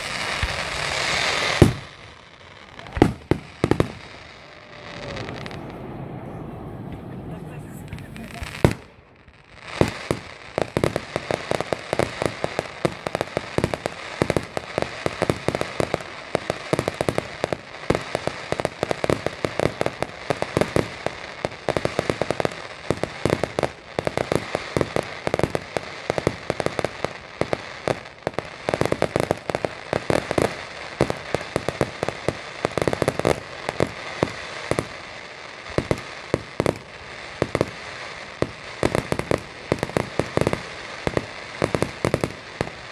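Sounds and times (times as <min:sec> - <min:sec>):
fireworks crackling and banging: 0:00.0 - 0:42.9
loud firework detonations: 0:00.0 - 0:42.9.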